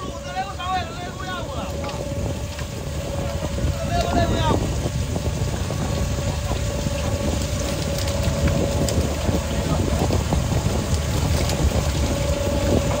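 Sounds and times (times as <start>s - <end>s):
machinery low drone: 0.0s - 13.0s
mid-pitched machine whine: 0.0s - 13.0s.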